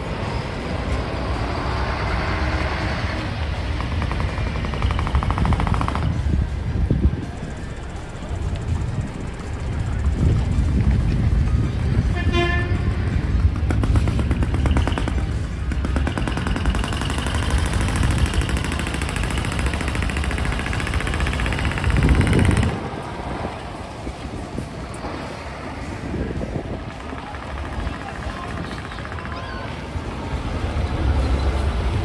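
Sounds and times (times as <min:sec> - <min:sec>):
truck engines rattling: 0:00.0 - 0:32.0.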